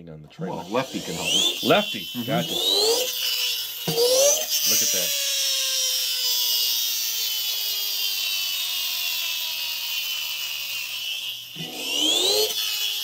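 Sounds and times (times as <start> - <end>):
toy truck wheels whirring: 0.4 - 13.0.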